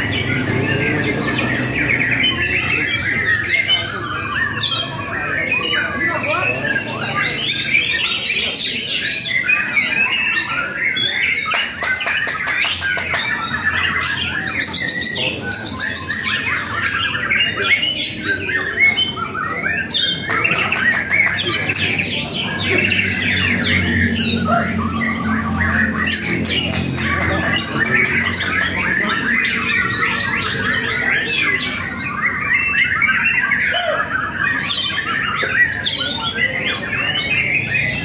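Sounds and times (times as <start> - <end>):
songbirds chirping chorus: 0.0 - 38.0.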